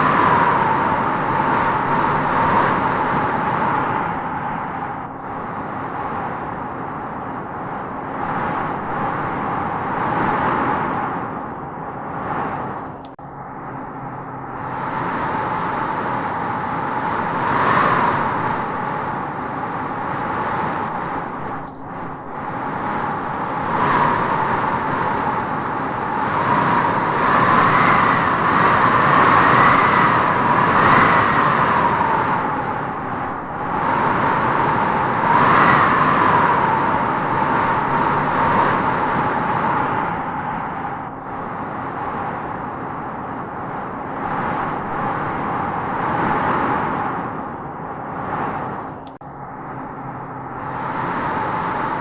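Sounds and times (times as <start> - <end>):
wind howling in gusts: 0.0 - 52.0.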